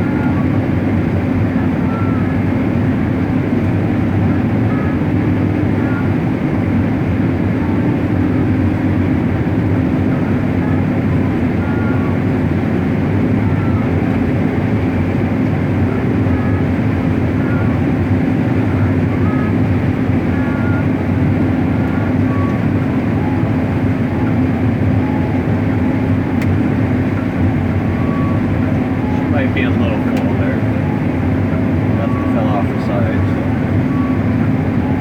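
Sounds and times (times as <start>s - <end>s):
combine harvester droning: 0.0s - 35.0s.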